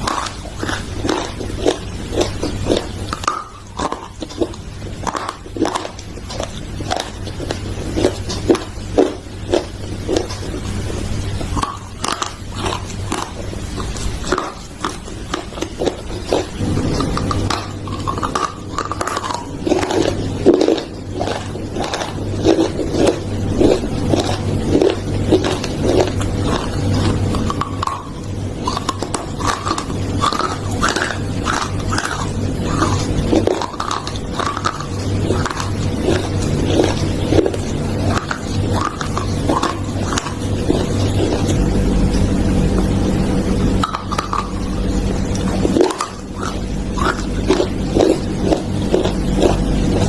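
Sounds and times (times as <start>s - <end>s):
crunching and chewing: 0.0s - 50.0s
low hum: 0.0s - 50.0s.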